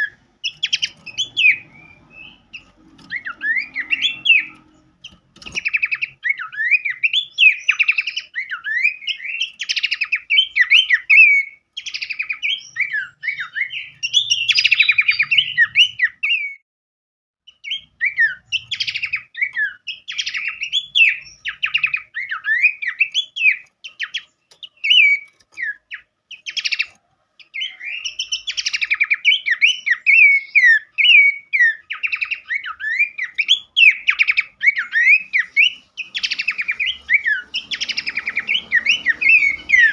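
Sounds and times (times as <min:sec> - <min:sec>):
songbird chirps and trills: 0:00.0 - 0:16.6, 0:17.5 - 0:39.9.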